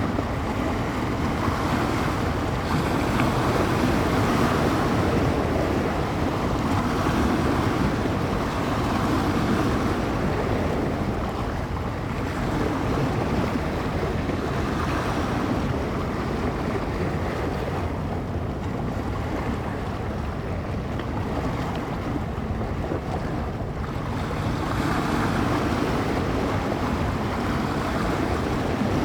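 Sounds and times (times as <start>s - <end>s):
waves breaking on shore: 0.0s - 29.0s
wind buffeting microphone: 0.0s - 29.0s.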